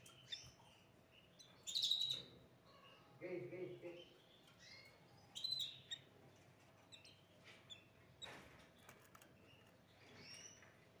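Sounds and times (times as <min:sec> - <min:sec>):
canary chirping: 0:00.0 - 0:03.2, 0:03.8 - 0:11.0.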